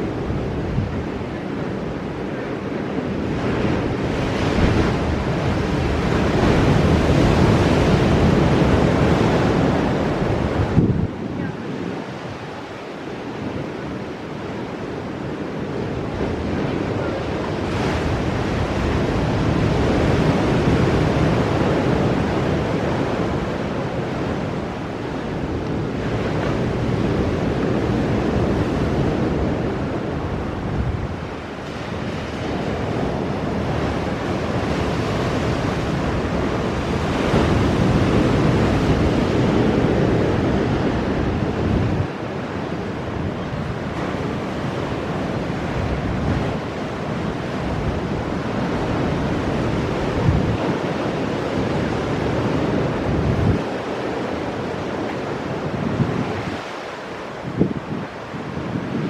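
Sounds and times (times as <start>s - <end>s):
surf breaking on rocky shore: 0.0s - 59.0s.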